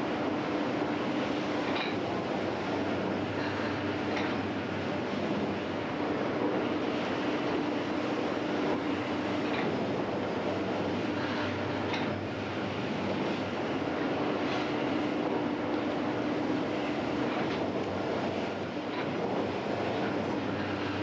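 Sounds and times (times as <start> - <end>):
bakery machinery drone: 0.0 - 21.0.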